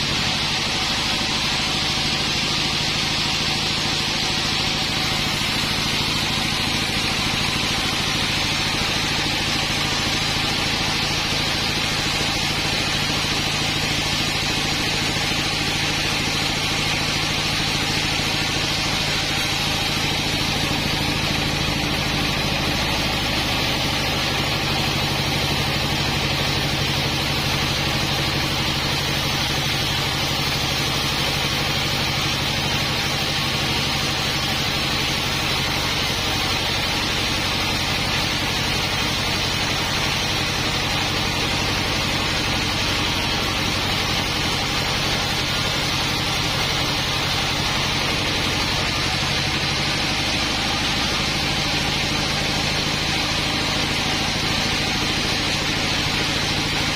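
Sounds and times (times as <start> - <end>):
sawmill engine hum: 0.0 - 56.9.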